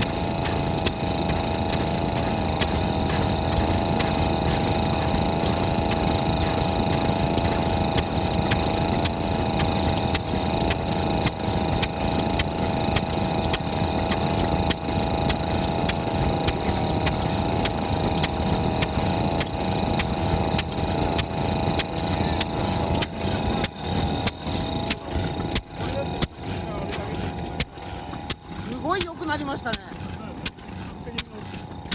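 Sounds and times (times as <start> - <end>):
stationary engine running: 0.0 - 31.9.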